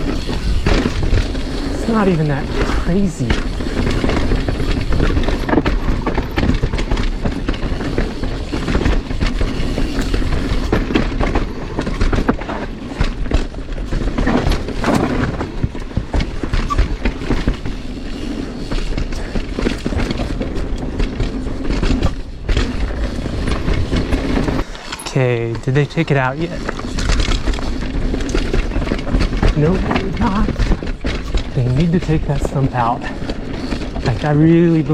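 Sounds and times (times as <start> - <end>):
bike rattling and knocking: 0.0 - 34.9
bike tyres on dirt trail: 0.0 - 34.9.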